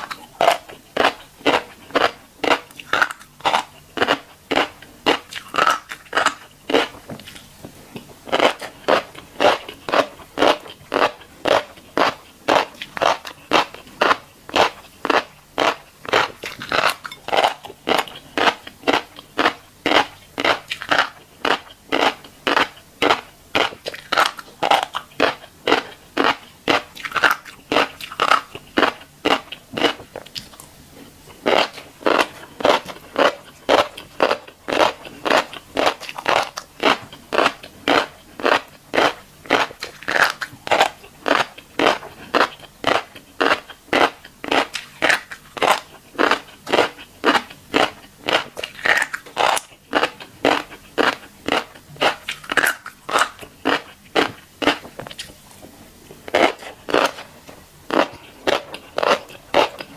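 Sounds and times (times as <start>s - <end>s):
crunchy chewing of seeds: 0.0s - 59.9s.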